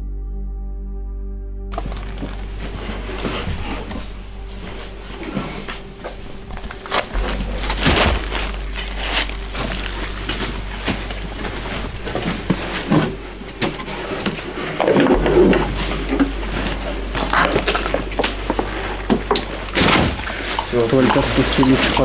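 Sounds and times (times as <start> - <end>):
low rumble: 0.0 - 22.0
clothing rustling: 1.7 - 22.0
footsteps crunching over debris: 1.7 - 22.0
knocks and scrapes: 1.7 - 22.0.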